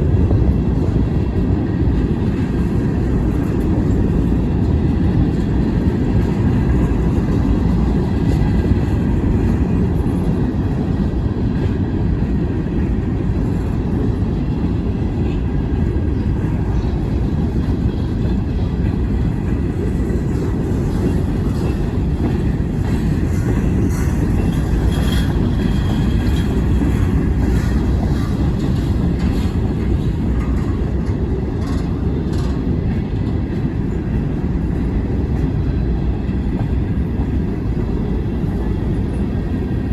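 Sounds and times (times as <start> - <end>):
freight train rumbling on rails: 0.0 - 39.9.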